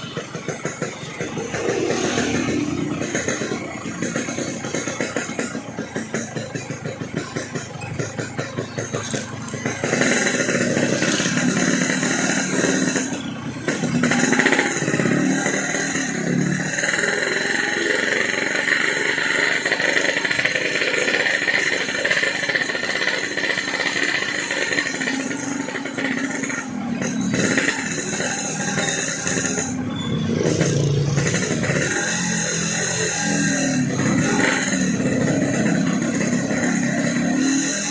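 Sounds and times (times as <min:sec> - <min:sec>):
two-stroke motorcycle accelerating: 0:00.0 - 0:37.9.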